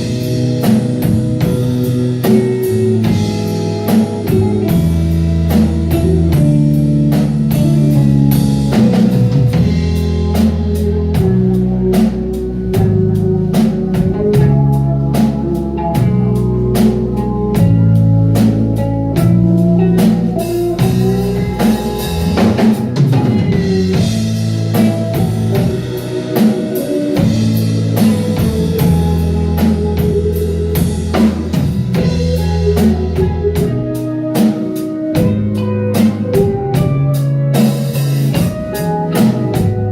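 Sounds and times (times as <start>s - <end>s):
bass guitar: 0.0s - 39.9s
drum kit beat: 0.0s - 39.9s
electric guitar: 0.0s - 39.9s.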